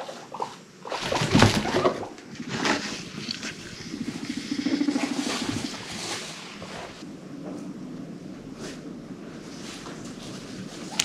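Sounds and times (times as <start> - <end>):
guinea pig rumbling purr: 0.0 - 11.0.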